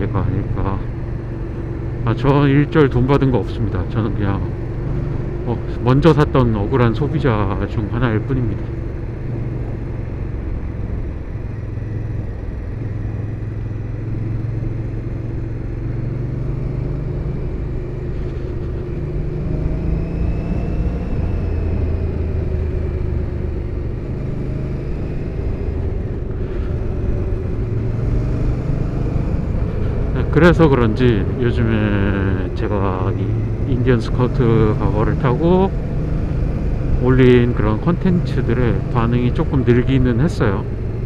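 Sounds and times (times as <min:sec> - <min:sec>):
motorcycle engine rumbling: 0:00.0 - 0:41.0.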